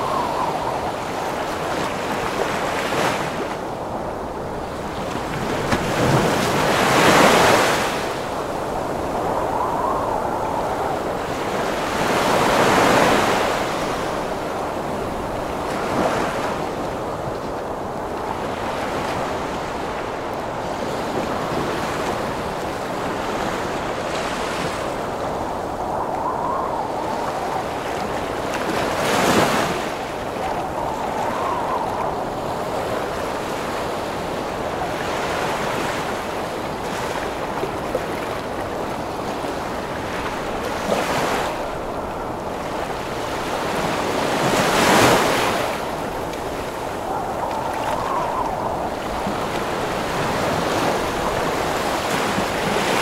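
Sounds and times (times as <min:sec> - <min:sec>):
howling storm wind: 0:00.0 - 0:53.0
sea waves crashing: 0:00.0 - 0:53.0.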